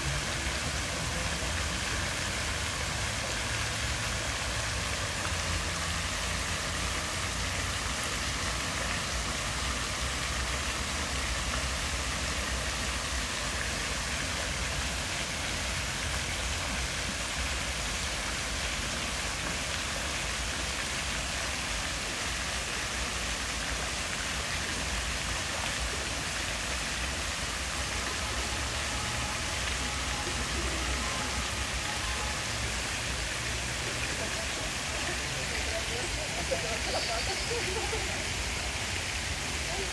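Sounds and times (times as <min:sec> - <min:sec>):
fountain jets splashing into pool: 0:00.0 - 0:39.9.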